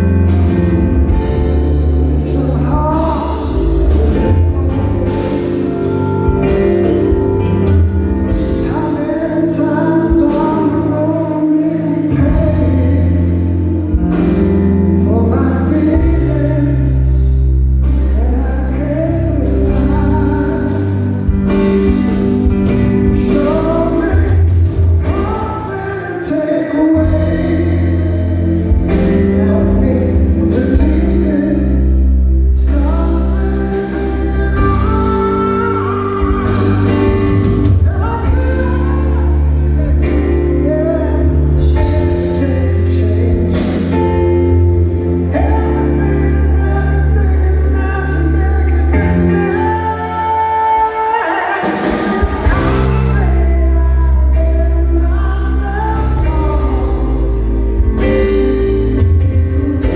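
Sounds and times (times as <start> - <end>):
live rock band: 0.0 - 59.9
man singing: 0.0 - 59.9.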